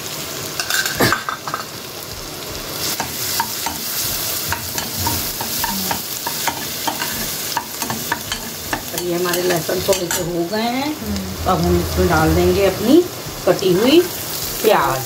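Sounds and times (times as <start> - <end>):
garlic sizzling in hot oil: 0.0 - 11.1, 12.8 - 15.0.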